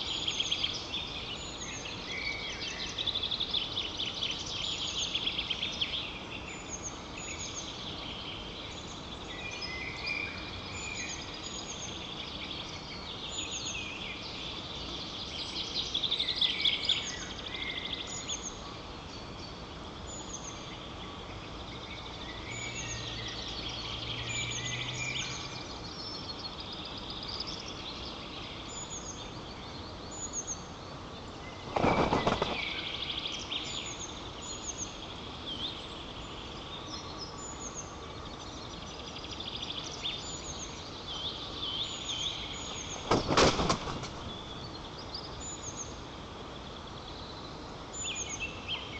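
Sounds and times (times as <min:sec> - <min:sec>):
background hiss: 0:00.0 - 0:48.9
songbirds singing: 0:00.0 - 0:48.9.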